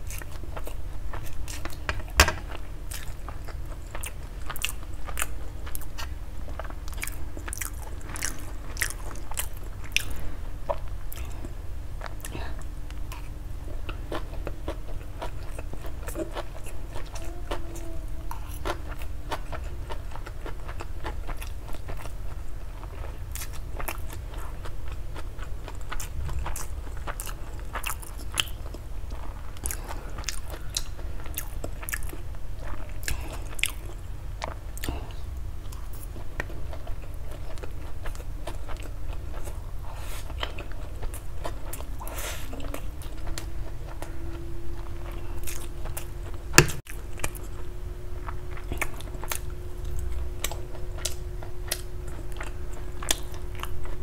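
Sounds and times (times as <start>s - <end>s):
chewing with mouth clicks: 0.0s - 54.0s.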